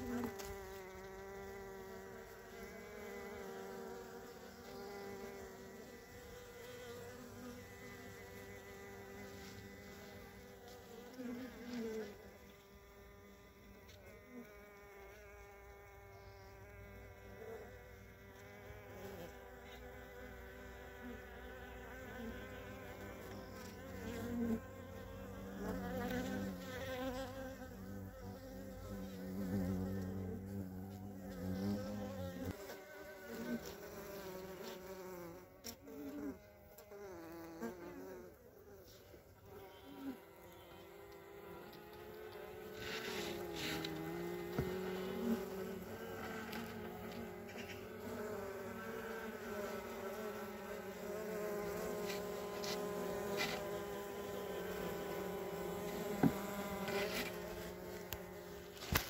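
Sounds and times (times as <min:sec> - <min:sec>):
honeybees buzzing: 0:00.0 - 0:59.0.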